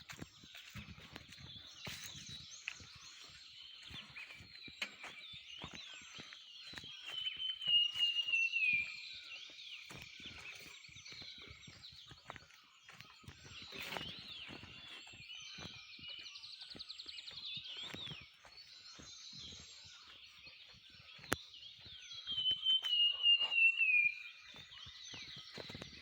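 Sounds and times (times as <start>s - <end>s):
wild birds singing: 0.0s - 26.0s.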